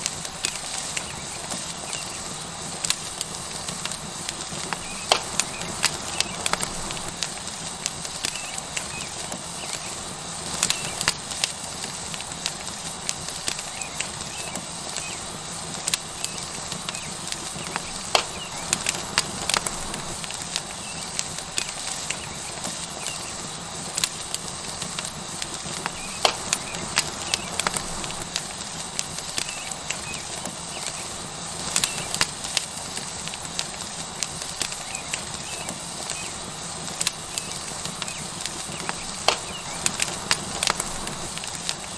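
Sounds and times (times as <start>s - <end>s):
burning wood crackling and popping: 0.0s - 41.9s
steak sizzling on hot rock: 0.0s - 41.9s.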